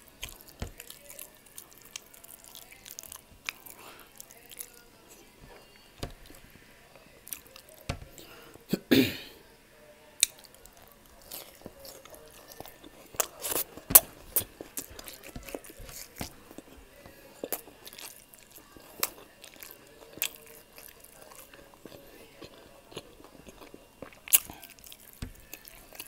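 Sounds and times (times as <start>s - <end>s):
chewing with wet mouth clicks: 0.0s - 8.2s, 10.2s - 26.0s.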